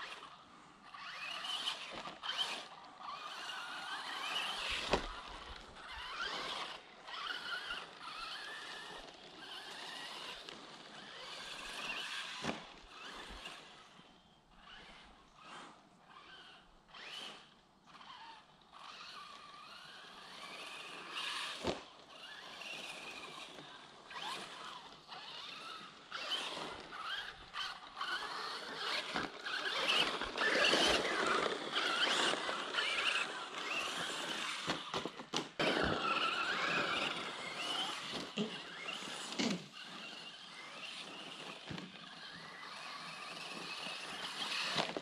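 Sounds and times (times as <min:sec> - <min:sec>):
rc car motor whine: 0:00.0 - 0:45.0.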